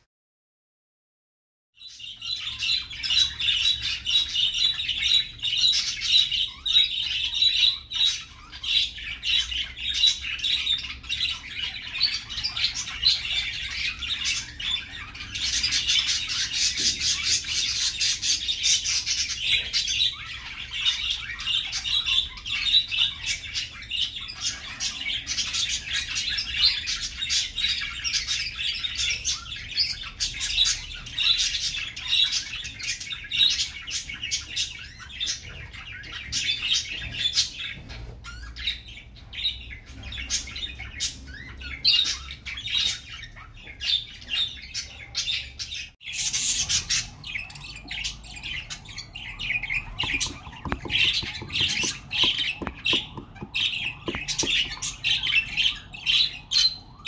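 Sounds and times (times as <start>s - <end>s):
budgerigars chattering: 2.0s - 57.0s.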